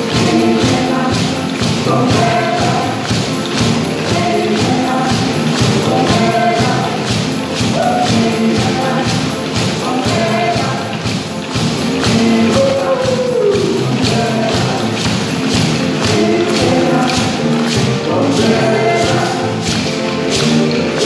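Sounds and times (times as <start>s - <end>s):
gourd shaker rhythm: 0.0s - 21.0s
hand drums and drum kit: 0.0s - 21.0s
man and woman singing: 0.0s - 21.0s.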